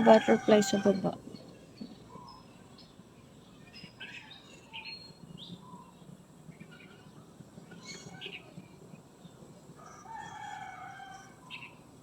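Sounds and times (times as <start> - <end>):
small birds chirping: 0.0 - 9.5, 11.4 - 11.9.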